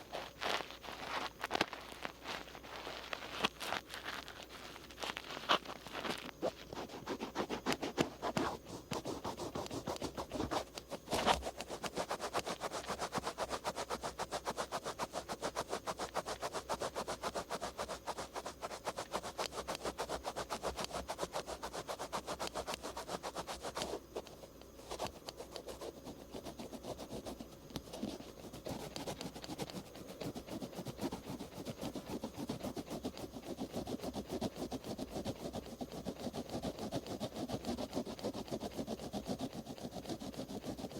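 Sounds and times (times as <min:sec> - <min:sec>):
cotton swab scratching ear: 0:00.0 - 0:40.9.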